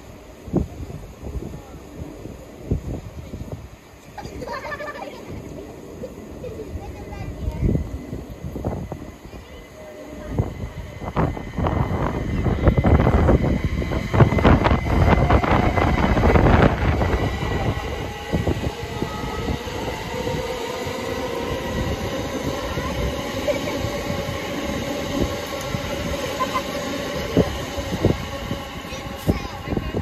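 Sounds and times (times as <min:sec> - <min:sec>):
faint train whine: 0:00.0 - 0:30.0
train wheels on rail: 0:00.0 - 0:30.0.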